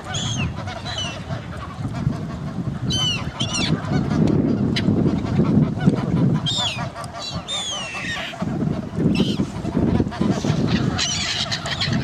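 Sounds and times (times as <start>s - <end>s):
waterbirds calling: 0.0s - 12.0s.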